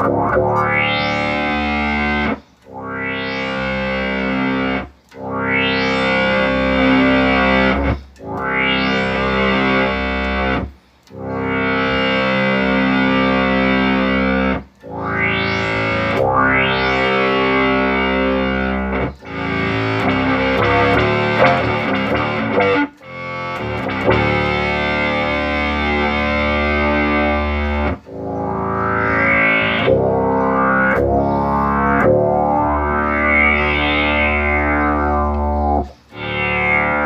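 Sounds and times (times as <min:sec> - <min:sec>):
sustained synth notes: 0:00.0 - 0:37.0.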